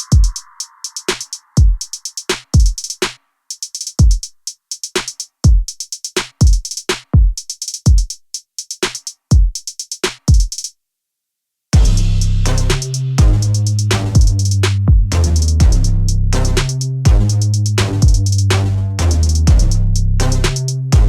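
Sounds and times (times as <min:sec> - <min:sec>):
electronic drum-machine beat: 0:00.0 - 0:10.6, 0:11.8 - 0:21.0.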